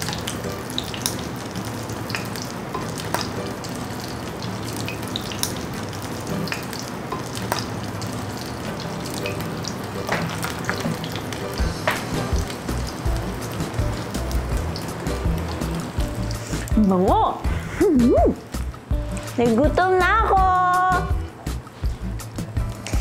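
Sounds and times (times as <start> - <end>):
oil popping and crackling: 0.0 - 19.8, 21.5 - 23.0
food sizzling in hot oil: 0.0 - 23.0.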